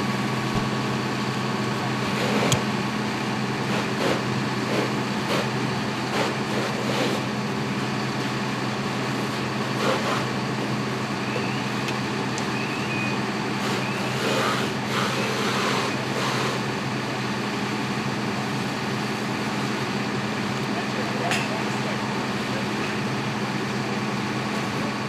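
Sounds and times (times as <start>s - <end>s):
fire engine pump running: 0.0s - 25.0s.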